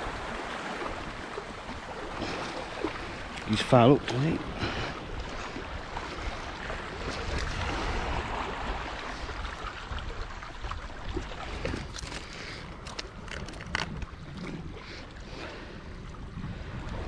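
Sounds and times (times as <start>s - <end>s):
sea washing: 0.0s - 17.0s
wind buffeting the microphone: 0.0s - 17.0s.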